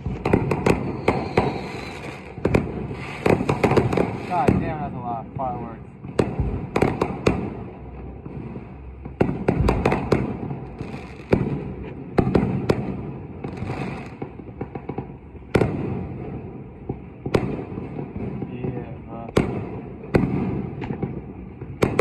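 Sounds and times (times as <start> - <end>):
distant explosions rumbling: 0.0 - 22.0
fireworks bangs and crackling: 0.0 - 22.0.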